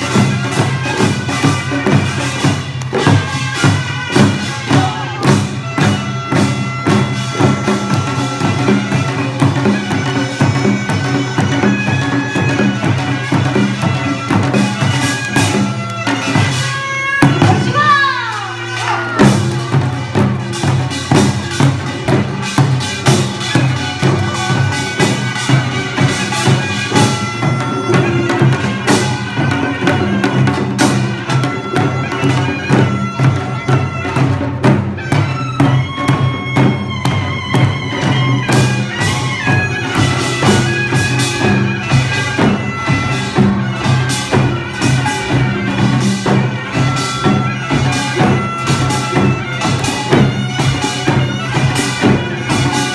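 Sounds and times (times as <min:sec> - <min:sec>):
percussion strikes: 0:00.0 - 0:52.9
reedy wind instrument melody: 0:00.0 - 0:52.9.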